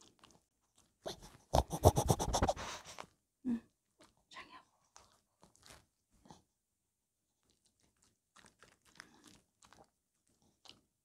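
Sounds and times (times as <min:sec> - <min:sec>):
dog chewing and mouth-smacking: 0:00.0 - 0:03.2, 0:03.9 - 0:06.5, 0:07.4 - 0:10.9.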